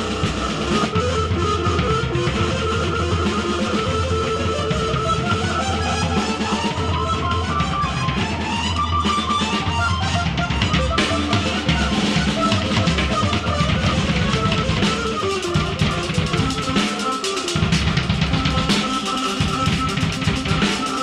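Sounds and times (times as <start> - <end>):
drumming: 0.0 - 21.0
loud keyboard lines: 0.0 - 21.0.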